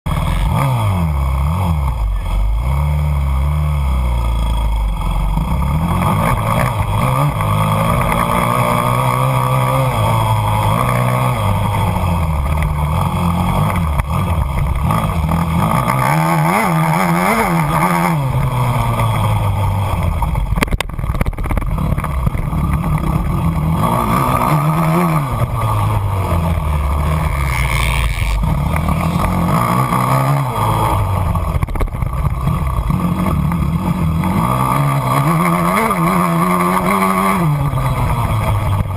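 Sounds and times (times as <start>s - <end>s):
engine running: 0.1s - 38.9s.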